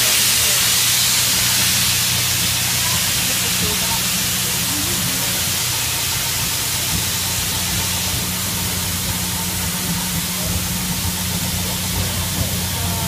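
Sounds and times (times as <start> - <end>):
loud hiss of steam locomotive: 0.0 - 13.0.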